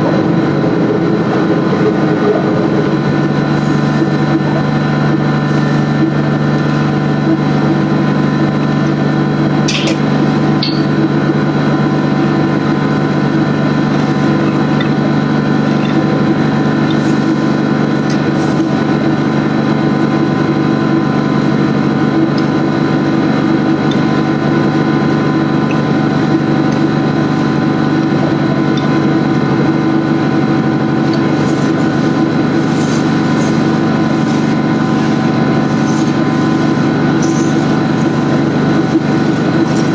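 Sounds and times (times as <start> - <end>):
machinery hum: 0.0 - 39.9.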